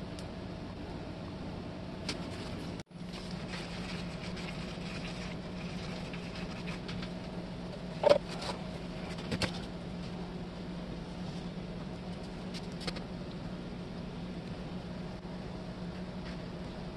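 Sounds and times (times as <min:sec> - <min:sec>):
low electrical hum: 0:00.0 - 0:16.9.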